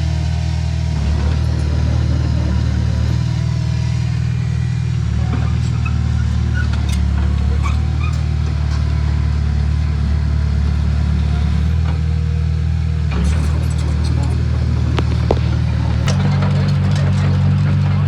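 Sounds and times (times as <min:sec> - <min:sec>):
heavy machinery diesel engine running: 0:00.0 - 0:18.0.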